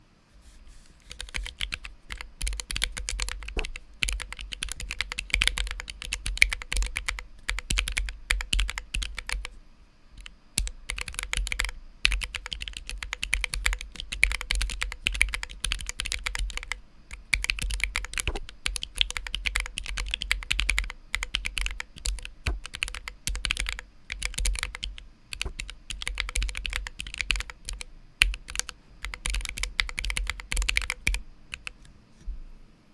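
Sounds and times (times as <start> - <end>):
mechanical keyboard typing: 1.0 - 9.5, 10.2 - 31.9.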